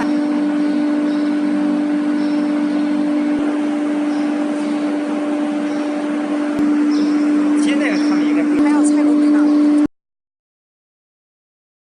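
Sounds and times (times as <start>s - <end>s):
router spindle whining: 0.0s - 9.9s.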